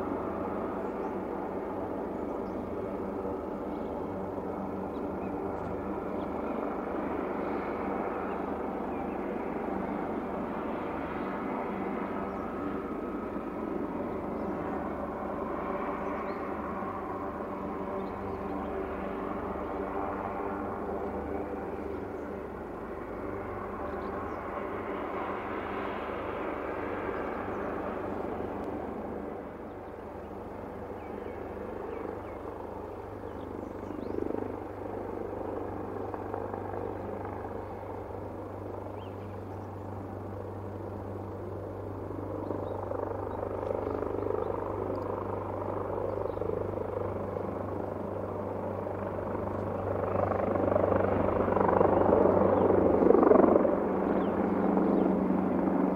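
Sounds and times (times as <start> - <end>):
helicopter engines and rotor: 0.0 - 55.9.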